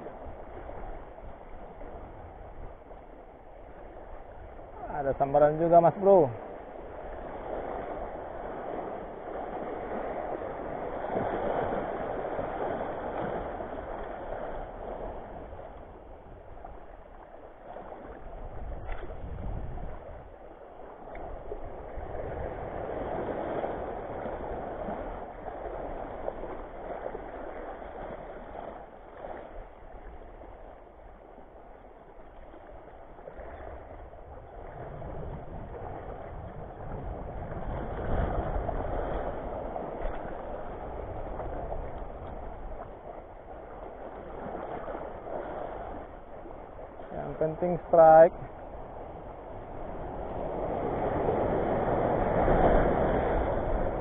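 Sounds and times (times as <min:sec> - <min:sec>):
waves washing over rocks: 0:00.0 - 0:54.0.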